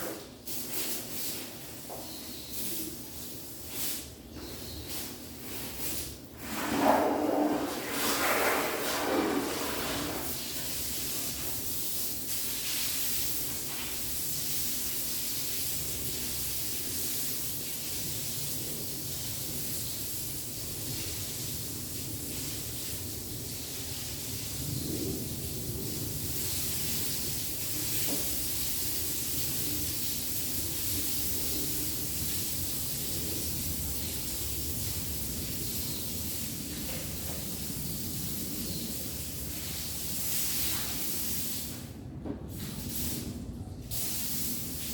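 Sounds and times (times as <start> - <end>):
steady hissing rushing noise: 5.8 - 42.0.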